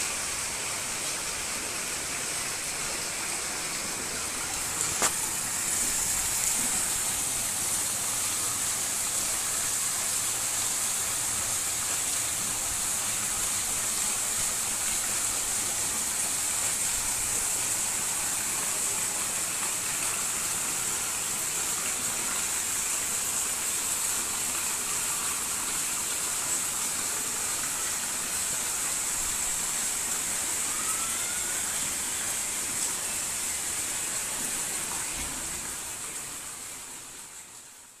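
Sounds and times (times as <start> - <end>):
heavy rain on street and puddles: 0.0 - 38.0.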